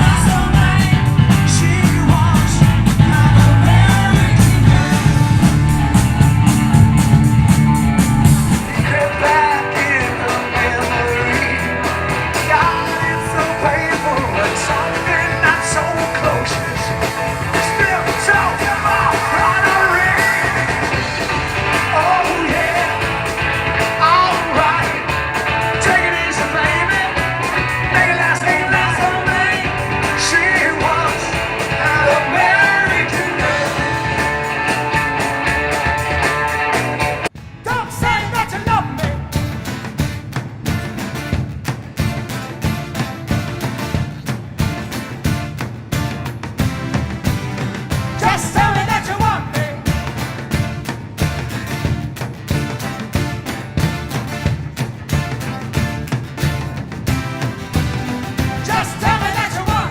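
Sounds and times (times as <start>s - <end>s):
rock song with singing and guitar: 0.0s - 59.9s.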